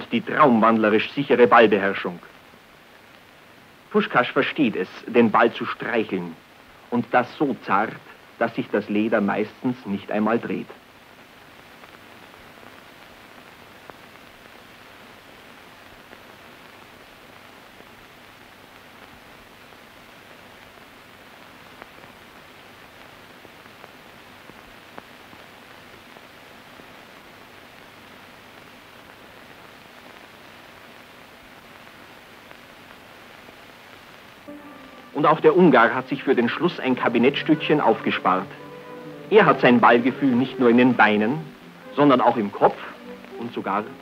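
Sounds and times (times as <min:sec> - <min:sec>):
film soundtrack hiss: 0:00.0 - 0:44.0.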